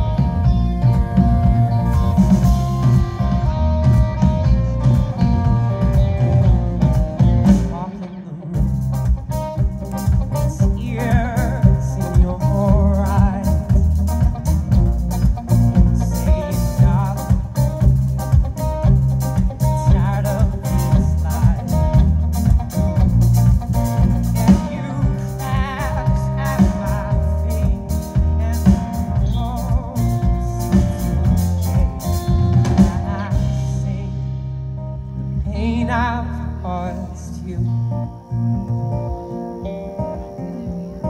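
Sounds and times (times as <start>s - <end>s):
drum kit: 0.0s - 37.1s
bass guitar: 0.0s - 41.0s
electric and acoustic guitars: 0.0s - 41.0s.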